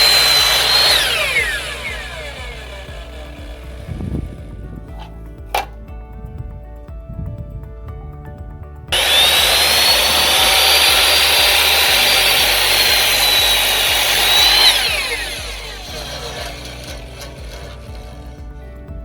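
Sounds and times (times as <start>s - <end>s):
miter saw cutting wood: 0.0s - 5.7s, 9.0s - 19.0s
saw blade spinning down: 0.0s - 5.7s, 9.0s - 18.6s
background music: 0.0s - 19.0s.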